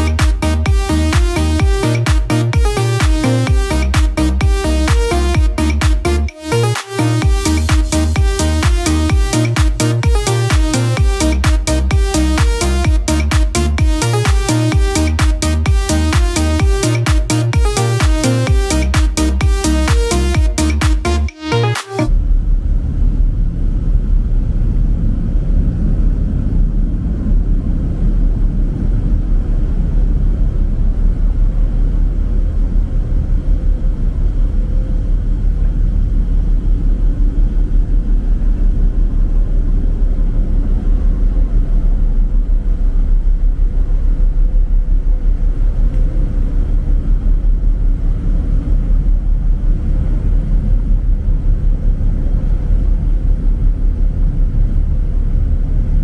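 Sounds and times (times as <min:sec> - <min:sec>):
faint steady hum: 0:00.0 - 0:21.4, 0:22.0 - 0:56.0
ferry engine rumble: 0:00.0 - 0:56.0.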